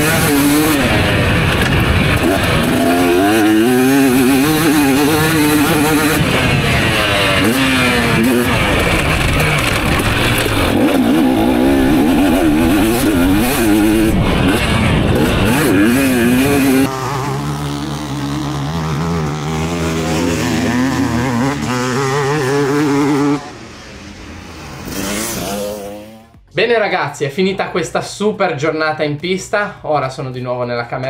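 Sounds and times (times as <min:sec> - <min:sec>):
dirt bike engines revving: 0:00.0 - 0:26.4.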